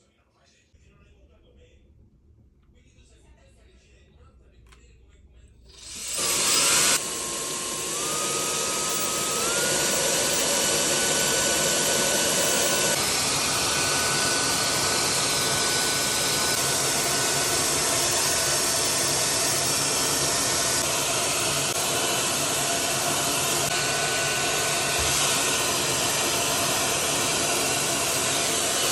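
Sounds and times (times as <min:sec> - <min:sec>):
hair dryer running: 0:05.7 - 0:28.9.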